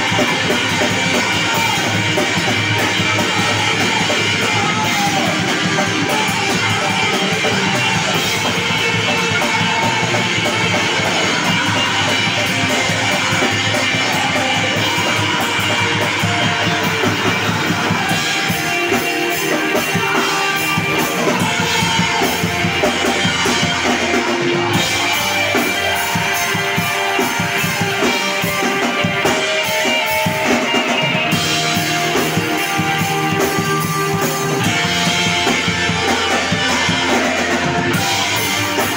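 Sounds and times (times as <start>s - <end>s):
bass guitar: 0.0s - 38.9s
distorted electric guitars: 0.0s - 38.9s
drum kit: 0.0s - 38.9s.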